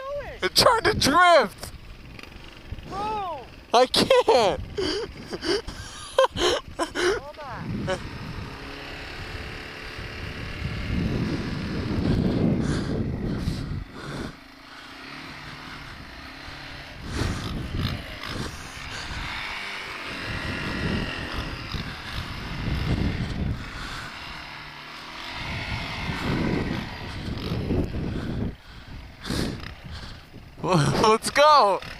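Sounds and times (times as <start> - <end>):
atv engine revving: 0.0 - 31.9.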